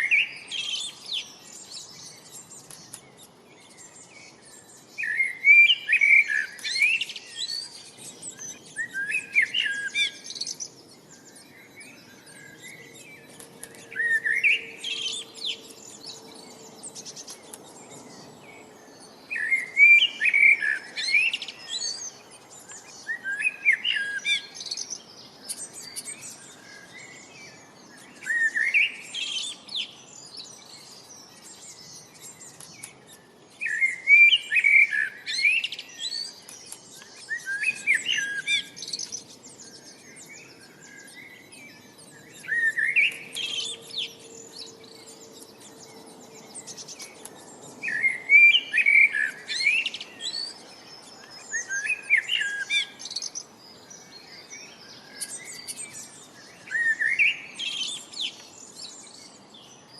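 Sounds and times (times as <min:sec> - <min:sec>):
bird singing song phrase: 0:00.0 - 0:59.9
faint bird chirps: 0:00.0 - 0:59.9.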